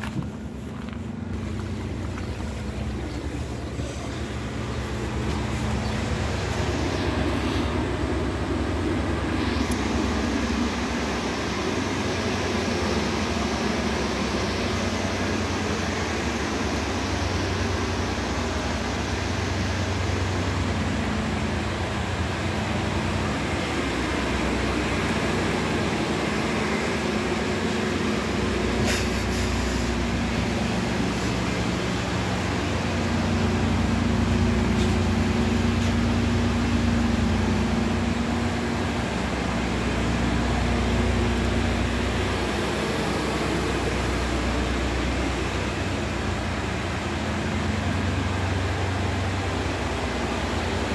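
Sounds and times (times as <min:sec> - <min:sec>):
bus engine hum and rumble: 0:00.0 - 0:50.9.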